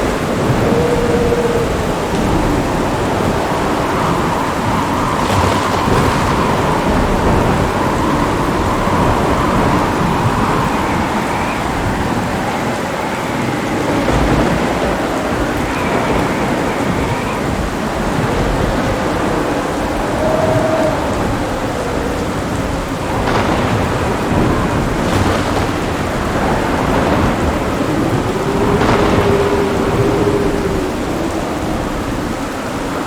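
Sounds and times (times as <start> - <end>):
heavy rain pouring: 0.0 - 33.0
thunder rumbling: 0.0 - 33.0.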